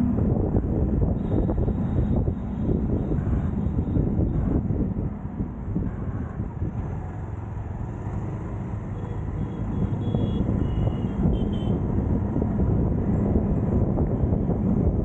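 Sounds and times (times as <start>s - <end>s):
road traffic noise: 0.0s - 15.0s
wind rushing on microphone: 0.0s - 15.0s.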